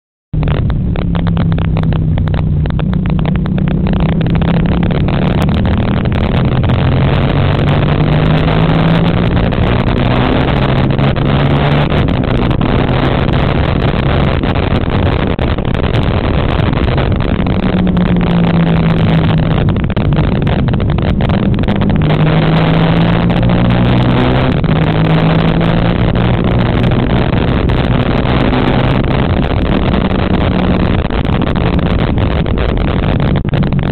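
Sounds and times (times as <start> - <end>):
wind rushing: 0.4 - 33.9.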